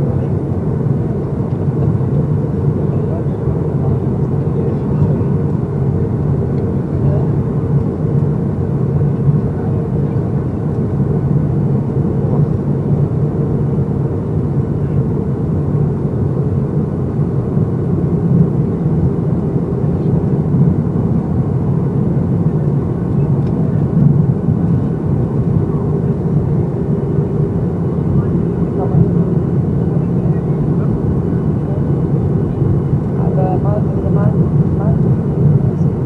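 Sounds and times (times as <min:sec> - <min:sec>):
jet engines droning: 0:00.0 - 0:36.0.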